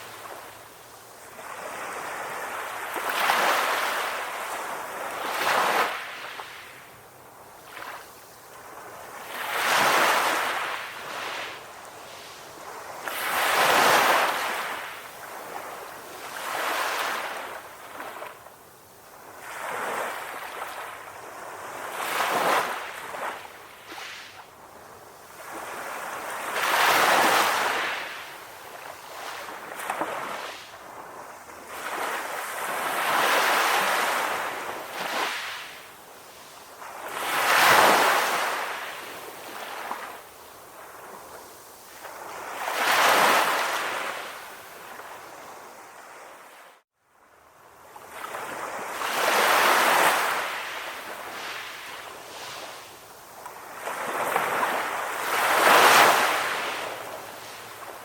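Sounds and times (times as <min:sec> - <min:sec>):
sea waves breaking on a beach: 0:00.0 - 0:58.0.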